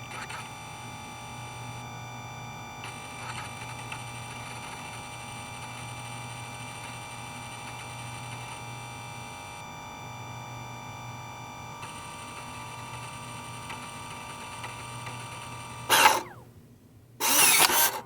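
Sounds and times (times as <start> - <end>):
disk drive spinning: 0.0 - 16.5, 17.2 - 18.0.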